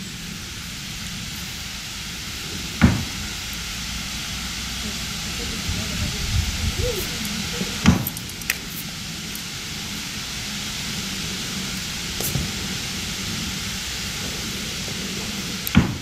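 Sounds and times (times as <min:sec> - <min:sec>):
wind hiss on microphone: 0:00.0 - 0:16.0.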